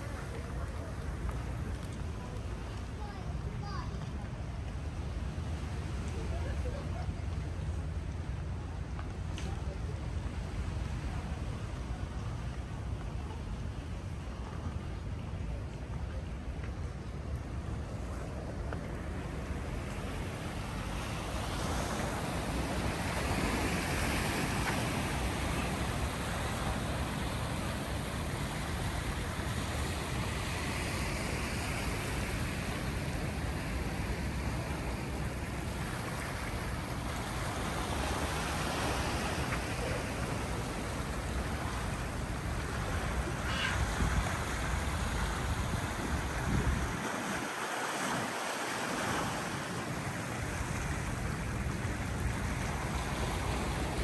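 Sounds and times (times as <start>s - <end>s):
sea waves washing in: 0.0s - 54.0s
wind rumbling on microphone: 0.0s - 54.0s.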